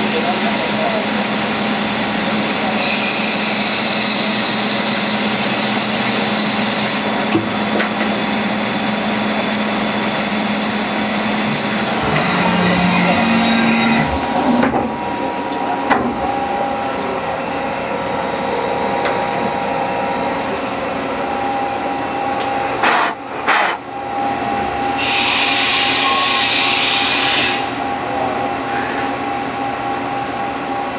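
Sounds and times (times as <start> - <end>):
lathe machine whining: 0.0 - 30.9.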